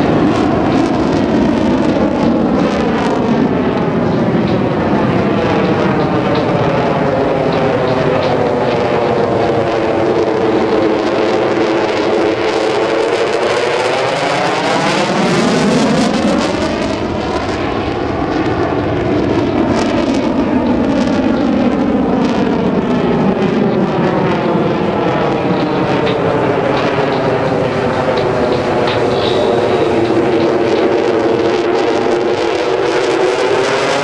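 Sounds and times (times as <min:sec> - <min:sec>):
fighter jet roar: 0:00.0 - 0:34.0.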